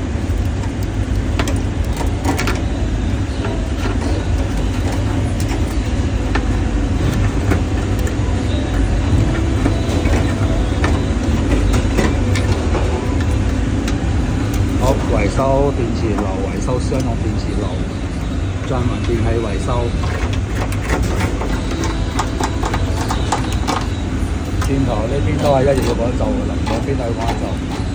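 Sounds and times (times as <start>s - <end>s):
steady low rumble: 0.0s - 27.9s.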